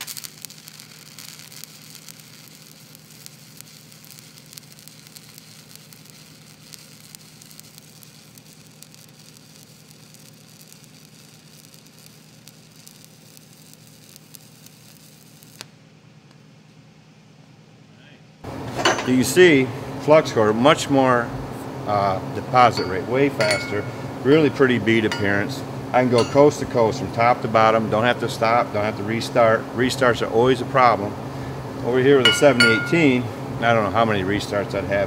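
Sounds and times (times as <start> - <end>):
arc welding crackling sizzle: 0.0 - 16.5, 18.4 - 35.0.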